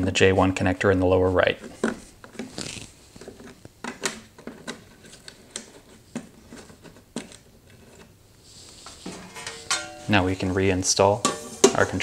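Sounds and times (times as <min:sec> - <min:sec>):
hand handling noise: 0:01.1 - 0:12.0.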